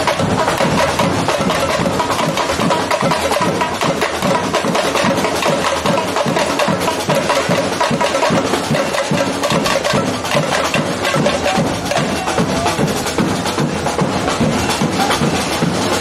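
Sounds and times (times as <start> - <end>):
street percussion band drumming: 0.0 - 16.0.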